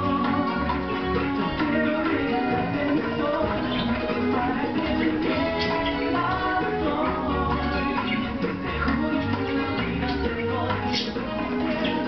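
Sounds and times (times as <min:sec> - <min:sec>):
music from a television: 0:00.0 - 0:12.0.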